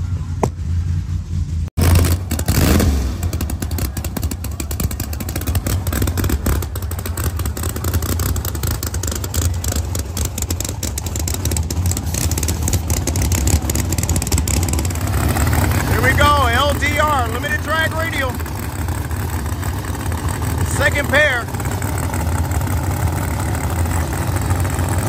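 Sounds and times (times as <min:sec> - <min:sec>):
race car engines idling: 0:00.0 - 0:25.0.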